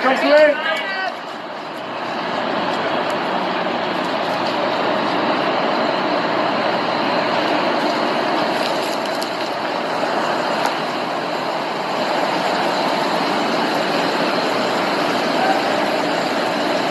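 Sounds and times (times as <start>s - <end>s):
heavy rain on wet street: 0.0s - 16.9s.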